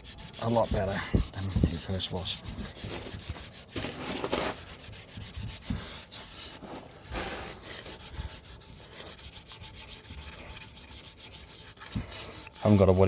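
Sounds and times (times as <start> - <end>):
foil scrubbing metal: 0.0 - 13.0.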